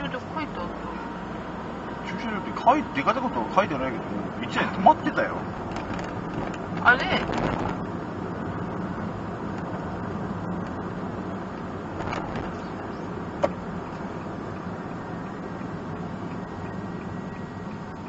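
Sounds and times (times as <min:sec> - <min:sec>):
van engine and tyre noise: 0:00.0 - 0:18.0.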